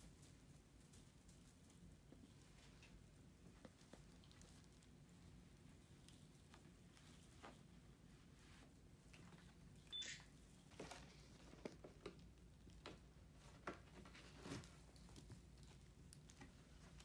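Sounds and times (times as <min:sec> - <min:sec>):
kittens pawing at cardboard and tinsel: 0:00.0 - 0:09.8, 0:10.4 - 0:17.0.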